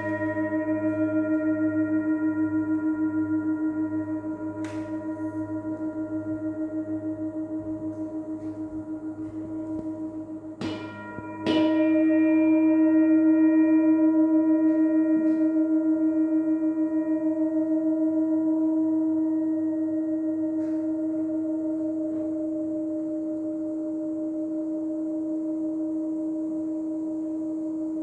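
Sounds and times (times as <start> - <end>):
singing bowls ringing: 0.0 - 28.0.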